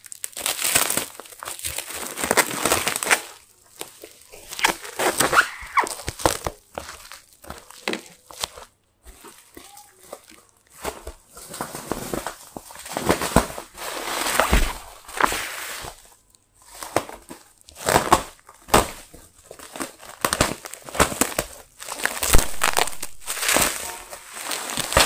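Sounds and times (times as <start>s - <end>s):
bubble wrap crinkling and tearing: 0.0s - 25.0s.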